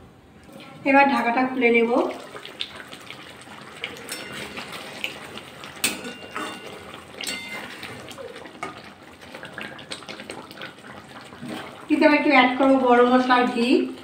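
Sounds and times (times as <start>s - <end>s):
thick gravy sloshing: 1.7s - 14.0s.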